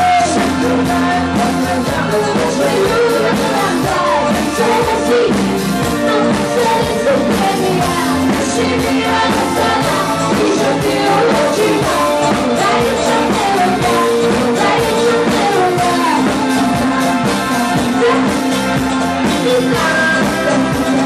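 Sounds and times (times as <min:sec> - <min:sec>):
drum beat: 0:00.0 - 0:21.0
guitars: 0:00.0 - 0:21.0
keyboards: 0:00.0 - 0:21.0
woman singing: 0:00.0 - 0:21.0.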